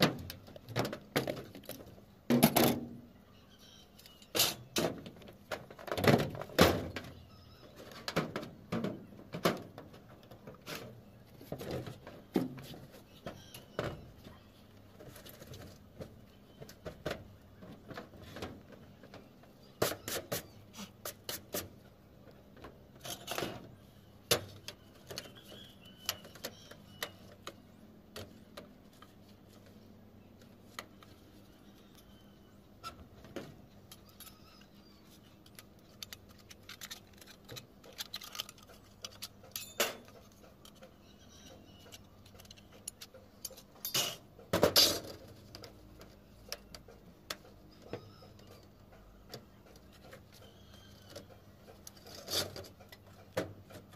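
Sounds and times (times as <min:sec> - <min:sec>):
tapping and scraping on metal roof: 0:00.0 - 0:03.0, 0:04.3 - 0:32.0, 0:35.4 - 0:53.9.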